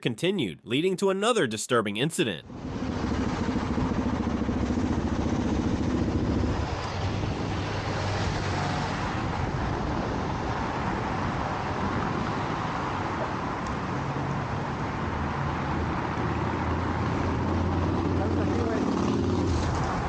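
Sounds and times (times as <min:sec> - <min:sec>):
road and wind noise: 0:02.4 - 0:20.0
low motorcycle engine hum: 0:02.5 - 0:20.0.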